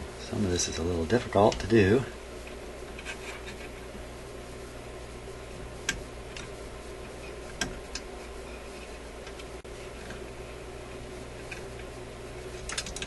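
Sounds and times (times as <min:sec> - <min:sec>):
electrical hum and buzz: 0:00.0 - 0:13.0.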